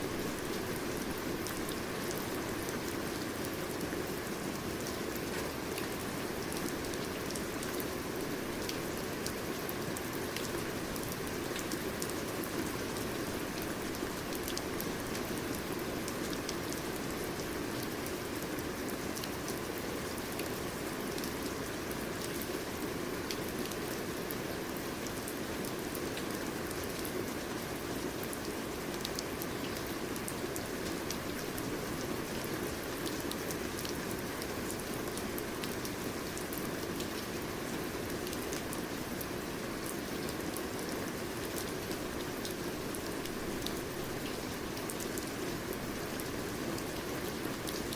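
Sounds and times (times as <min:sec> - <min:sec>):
steady rain hiss: 0:00.0 - 0:47.9
raindrops ticking on surface: 0:00.1 - 0:47.9.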